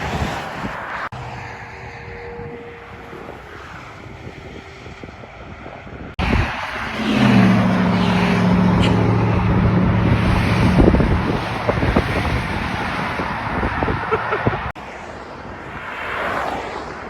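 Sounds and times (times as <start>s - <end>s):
car engine drone: 0.0s - 14.8s
road noise: 0.0s - 17.0s.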